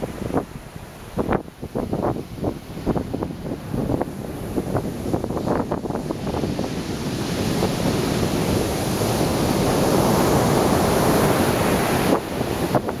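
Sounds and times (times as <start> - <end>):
wave breaking and surf rushing: 0.0 - 13.0.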